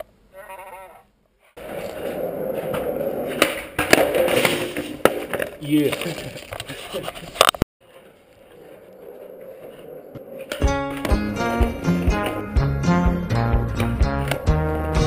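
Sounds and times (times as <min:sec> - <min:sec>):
skateboard wheels rolling on concrete: 0:00.0 - 0:15.0
skateboard popping and landing: 0:01.6 - 0:12.6, 0:13.3 - 0:15.0.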